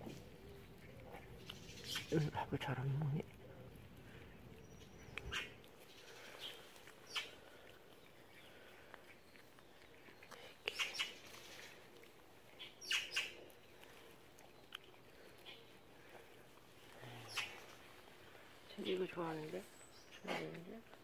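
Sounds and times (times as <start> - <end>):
faint outdoor background: 0.0 - 21.0
small birds chirping: 0.0 - 21.0.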